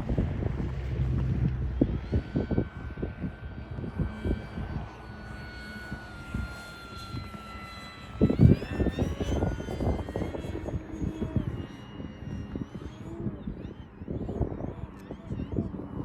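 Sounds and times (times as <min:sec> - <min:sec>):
model plane motor whine: 0:00.0 - 0:16.0
wind buffeting microphone: 0:00.0 - 0:16.0.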